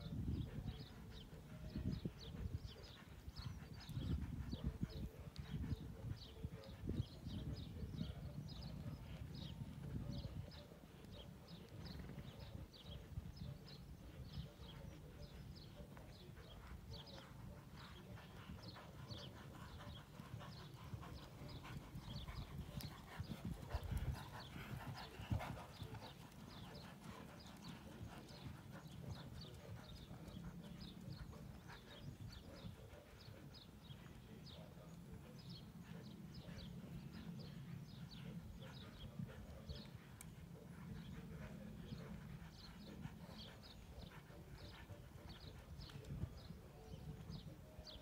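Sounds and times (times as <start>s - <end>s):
faint distant hoofbeats: 0.0s - 48.0s.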